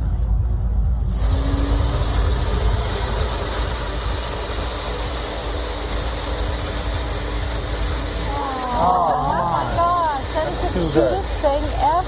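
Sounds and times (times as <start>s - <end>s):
blow dryer running: 1.0s - 12.0s.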